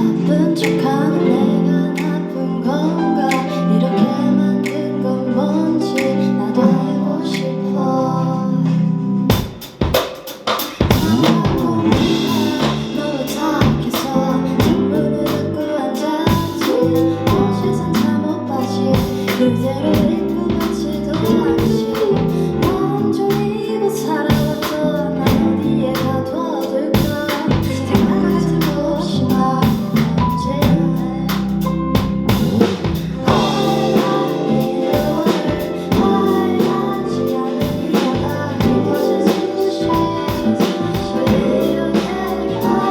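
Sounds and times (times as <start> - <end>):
live band playing: 0.0 - 8.0, 8.6 - 42.9
woman singing: 0.0 - 9.3, 10.7 - 32.1, 32.9 - 42.9.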